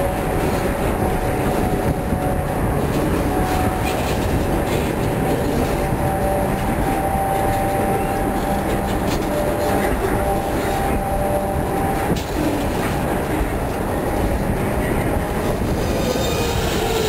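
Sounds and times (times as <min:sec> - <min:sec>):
train wheels rumbling and clacking: 0:00.0 - 0:17.0.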